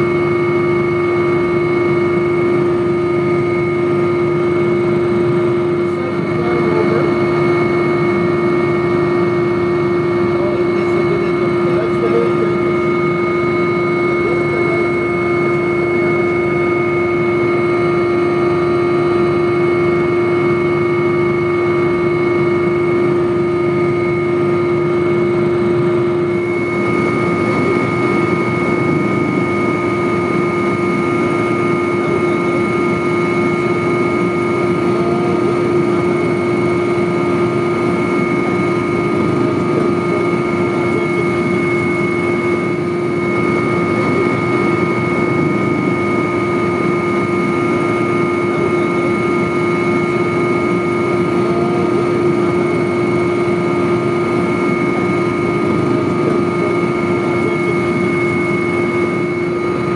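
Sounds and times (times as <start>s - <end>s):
aircraft cabin drone: 0.0s - 59.9s
whining tones: 0.0s - 59.9s.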